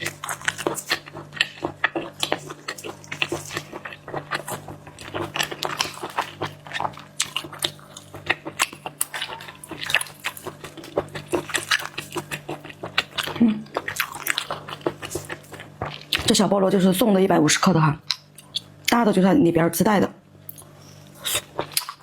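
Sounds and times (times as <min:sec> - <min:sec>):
wet chewing and slurping: 0:00.0 - 0:16.4, 0:20.5 - 0:22.0.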